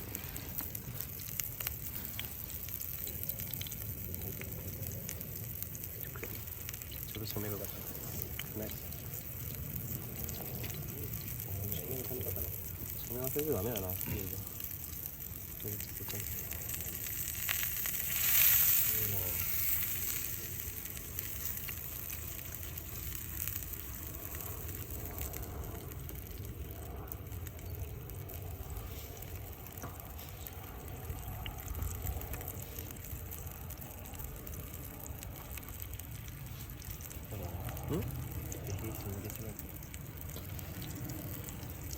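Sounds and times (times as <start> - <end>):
meat patties sizzling in a skillet: 0.0 - 41.9.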